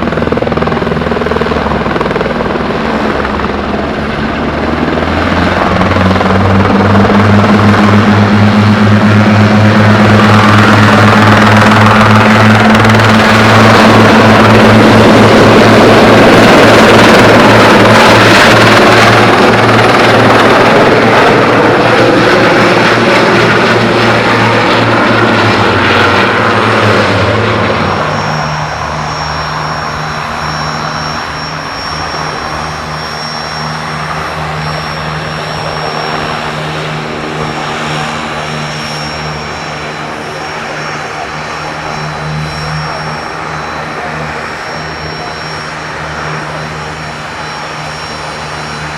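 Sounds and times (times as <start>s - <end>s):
aircraft engine and rotor noise: 0.0s - 48.9s.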